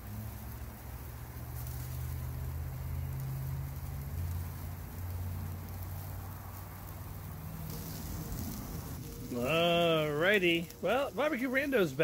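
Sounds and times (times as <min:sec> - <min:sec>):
charcoal crackling: 0:00.0 - 0:12.0
steaks sizzling: 0:00.0 - 0:12.0.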